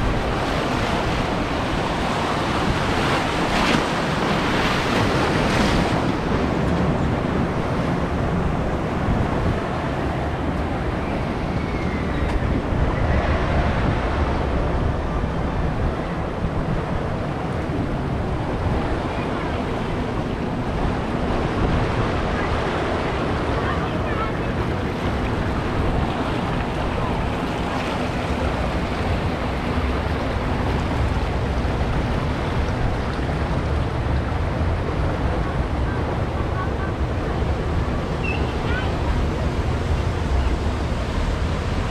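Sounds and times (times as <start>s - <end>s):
water rushing and churning: 0.0s - 41.9s
wind buffeting microphone: 0.0s - 41.9s.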